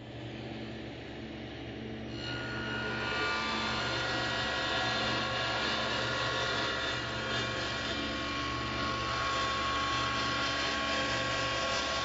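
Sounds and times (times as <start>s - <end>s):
table saw whining: 2.1s - 12.0s.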